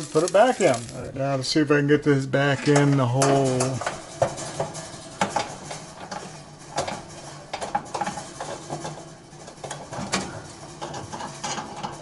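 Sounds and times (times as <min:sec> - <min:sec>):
metal clinking and scraping: 0:00.0 - 0:01.2, 0:02.4 - 0:12.0.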